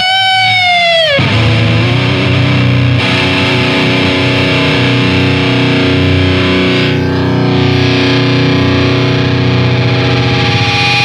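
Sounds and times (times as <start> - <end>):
distorted electric guitar: 0.0 - 11.0.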